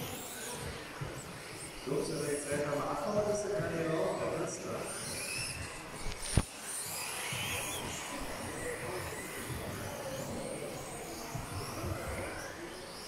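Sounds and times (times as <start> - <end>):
rc car motors whining: 0.0 - 13.0.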